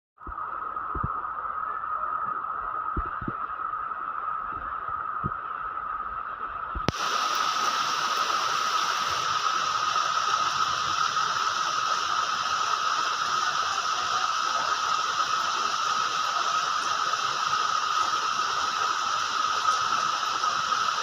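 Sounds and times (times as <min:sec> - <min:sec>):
rain hiss: 0:00.3 - 0:21.0.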